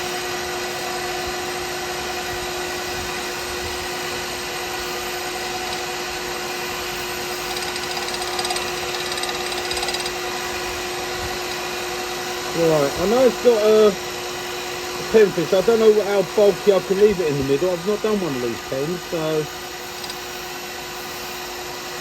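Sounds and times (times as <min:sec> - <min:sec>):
wood lathe motor whine: 0:00.0 - 0:22.0.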